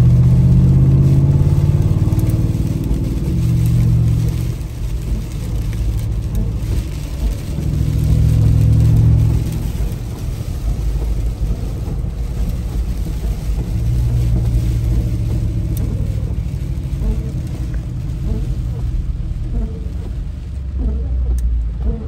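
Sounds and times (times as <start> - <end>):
car engine drone from inside: 0.0 - 22.0.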